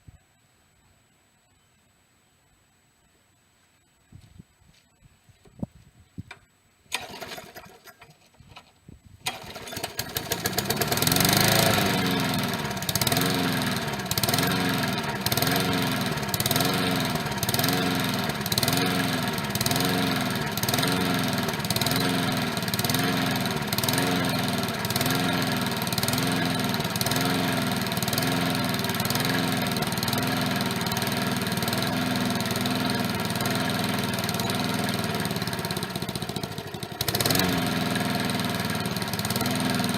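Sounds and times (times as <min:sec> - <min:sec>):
lawn mower engine running: 0:06.9 - 0:39.9.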